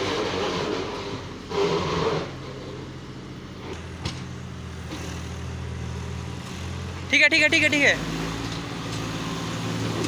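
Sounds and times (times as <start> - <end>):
tractor diesel engine: 0.0 - 10.0.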